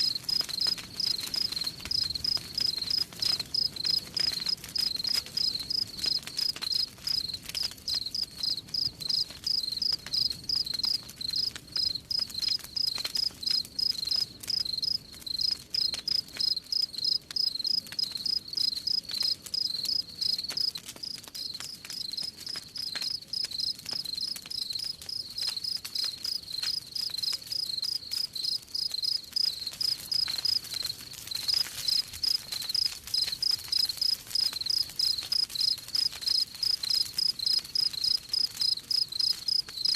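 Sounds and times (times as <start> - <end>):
faint campfire crackling: 0.0 - 39.9
crickets chirping: 3.6 - 21.2, 23.0 - 30.6, 31.8 - 39.9.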